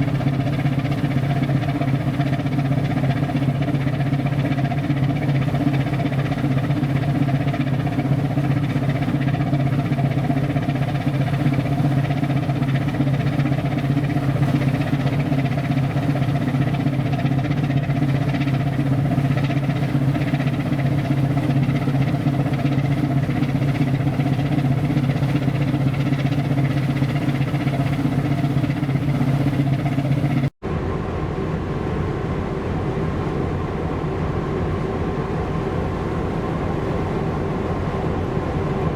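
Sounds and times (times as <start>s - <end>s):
ship diesel engine droning: 0.0s - 38.9s.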